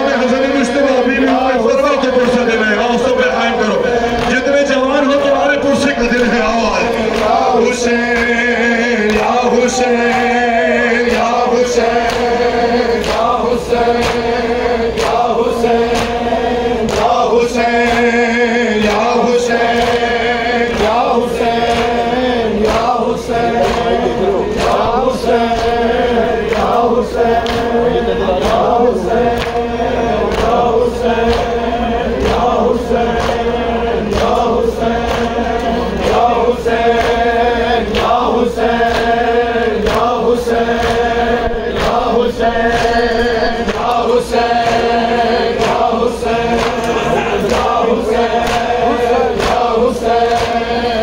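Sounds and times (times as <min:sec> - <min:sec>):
crowd of men chanting: 0:00.0 - 0:51.0
rhythmic chest-beating: 0:00.0 - 0:51.0.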